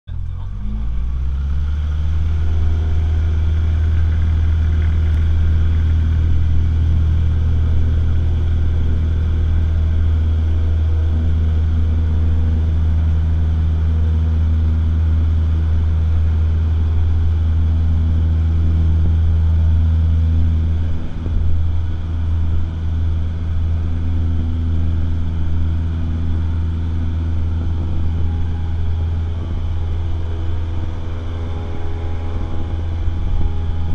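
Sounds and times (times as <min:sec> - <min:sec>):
light aircraft engine drone: 0:00.1 - 0:33.9.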